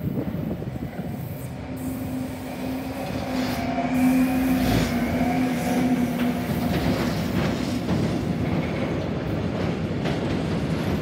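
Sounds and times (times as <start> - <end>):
electric locomotive hum: 0.0 - 11.0
train wheels rumbling on rail: 0.0 - 11.0.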